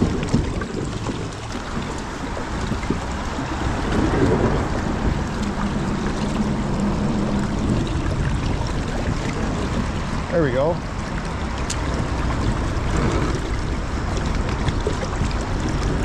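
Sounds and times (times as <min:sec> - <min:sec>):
water sloshing: 0:00.0 - 0:16.0
wind rumbling on microphone: 0:00.0 - 0:16.0.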